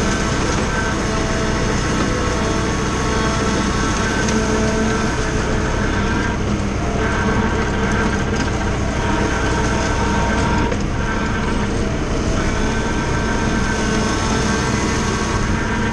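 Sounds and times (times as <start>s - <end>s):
tractor diesel engine with mower: 0.0s - 15.9s.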